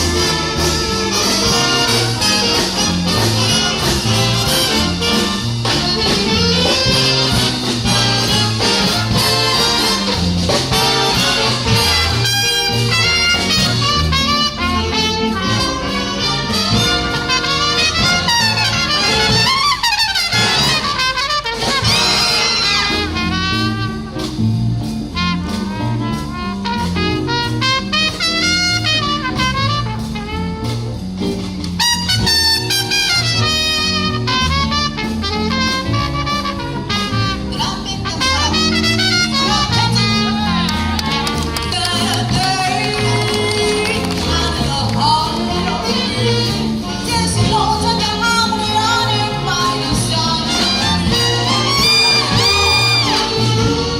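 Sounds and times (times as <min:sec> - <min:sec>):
jazz big band playing: 0:00.0 - 0:53.9.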